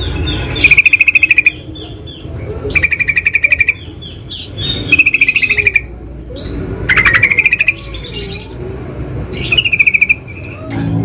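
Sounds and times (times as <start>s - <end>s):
bulbul chattering calls: 0.0s - 8.6s, 9.3s - 10.6s.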